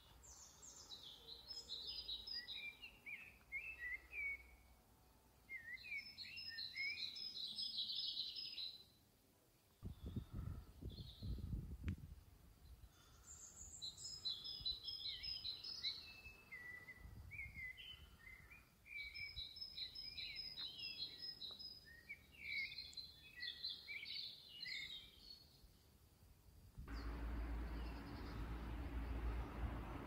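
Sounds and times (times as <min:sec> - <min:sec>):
songbirds chirping: 0:00.0 - 0:11.6, 0:12.5 - 0:26.2, 0:26.9 - 0:30.0.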